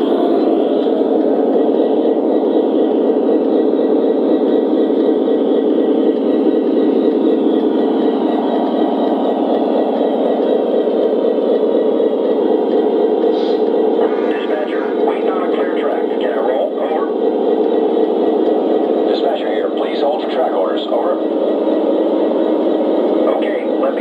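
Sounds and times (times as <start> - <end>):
model locomotive diesel idle sound: 0.0 - 24.0.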